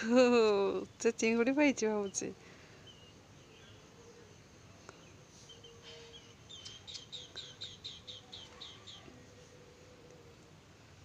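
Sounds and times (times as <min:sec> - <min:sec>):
bird chirping: 0:00.8 - 0:10.2.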